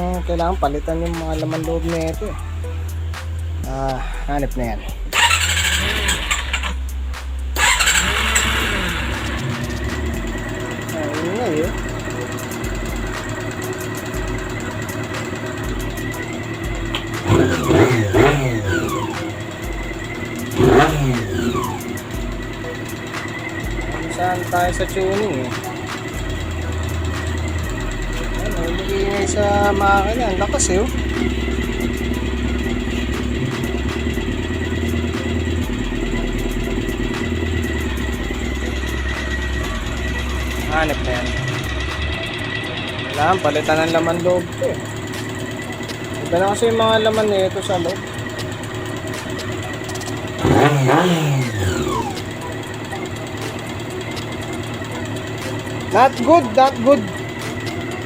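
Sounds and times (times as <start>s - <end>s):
faint engine ticking: 0.0s - 58.0s
motorcycle engine idling and revving: 0.0s - 58.0s.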